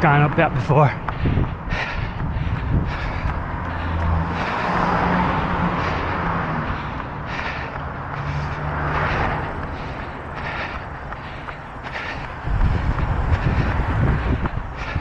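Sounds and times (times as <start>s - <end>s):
car engine: 0.9s - 15.0s.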